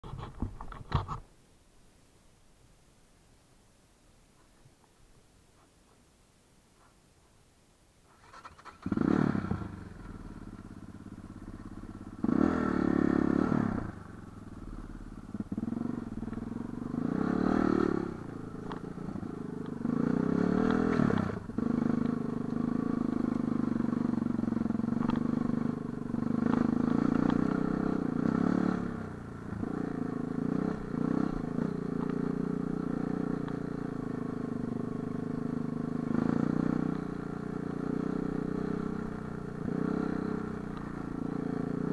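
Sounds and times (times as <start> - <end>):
motorcycle engine revving: 8.1 - 41.9.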